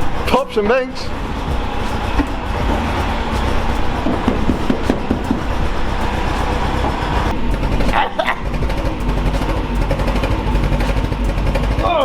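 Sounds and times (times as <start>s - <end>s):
car engine running: 0.0s - 12.0s
exhaust pops: 0.0s - 12.0s
high-pitched squeal: 0.0s - 12.0s.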